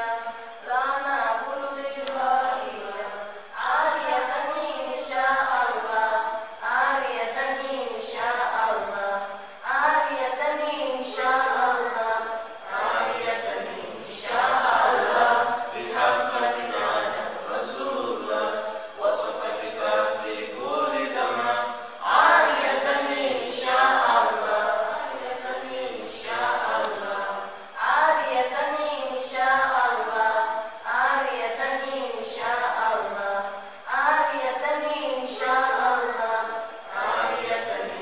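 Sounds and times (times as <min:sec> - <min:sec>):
voices singing a cappella: 0:00.0 - 0:38.0.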